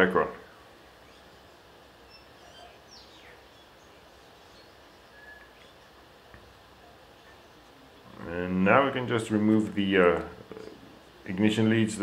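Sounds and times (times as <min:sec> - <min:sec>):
steady hiss: 0:00.0 - 0:12.0
wild birds chirping: 0:00.0 - 0:12.0.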